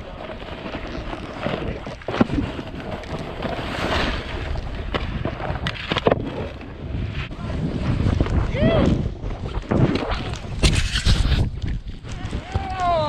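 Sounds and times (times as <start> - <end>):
wind buffeting microphone: 0.9 - 13.0.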